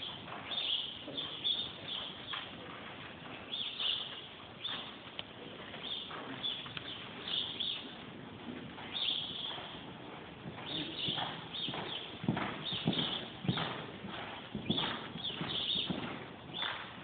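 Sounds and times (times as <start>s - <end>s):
birds chirping: 0.0s - 2.5s, 3.4s - 8.0s, 8.8s - 9.8s, 10.5s - 16.8s
horse hoofbeats on sand: 0.0s - 17.0s.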